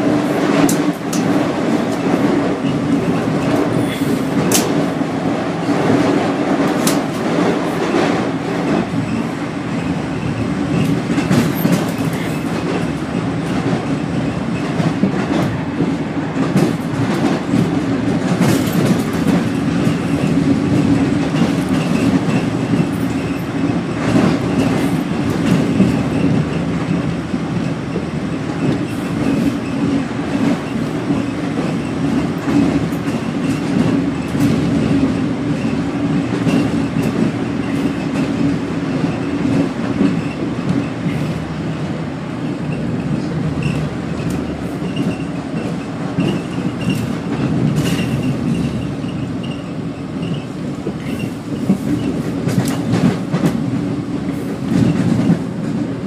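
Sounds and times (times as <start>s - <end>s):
train car rumbling: 0.0s - 56.0s.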